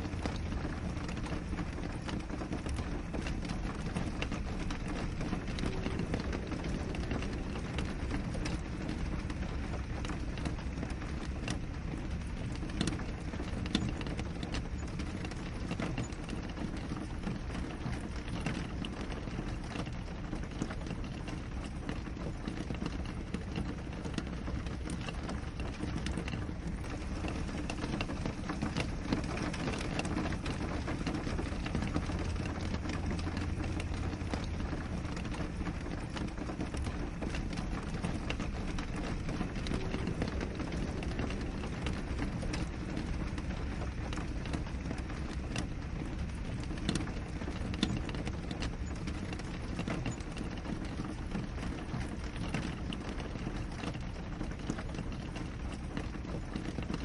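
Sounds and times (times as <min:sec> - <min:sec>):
rain tapping on window: 0:00.0 - 0:57.0.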